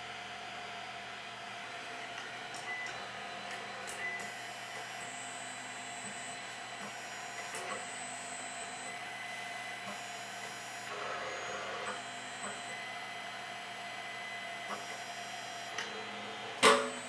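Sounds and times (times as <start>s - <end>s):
steady hum: 0.0s - 17.0s
stepper motors whining: 2.0s - 17.0s.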